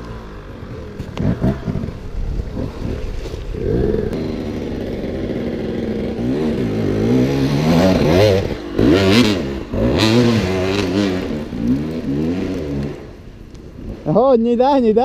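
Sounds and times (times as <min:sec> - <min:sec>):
motorcycle engine revving: 0:00.0 - 0:14.3.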